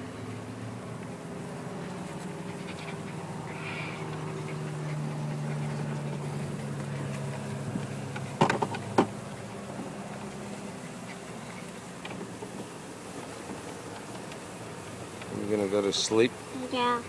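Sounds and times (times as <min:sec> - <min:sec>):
golf cart humming: 0:00.0 - 0:17.0.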